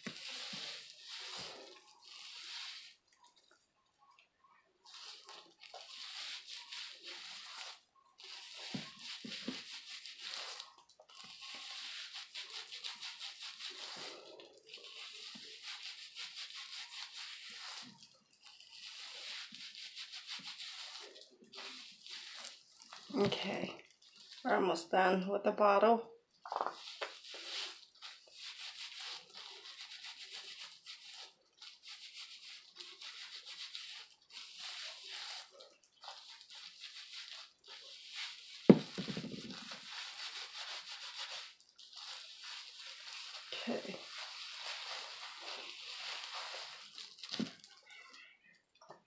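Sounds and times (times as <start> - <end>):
fingers rubbing wet hair: 0.0 - 3.5, 4.8 - 24.8, 26.7 - 48.0.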